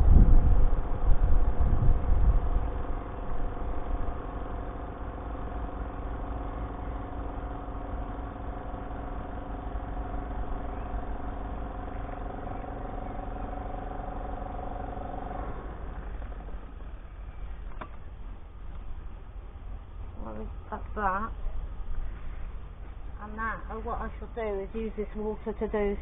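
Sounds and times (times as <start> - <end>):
spin dryer motor humming: 0.0 - 26.0.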